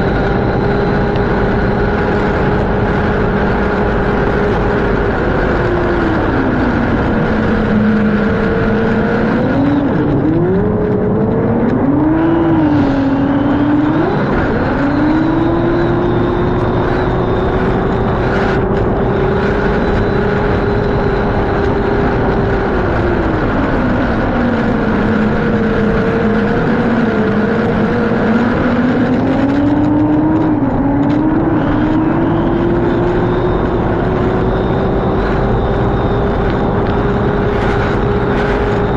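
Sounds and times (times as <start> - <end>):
race boat engine: 0.0 - 38.9.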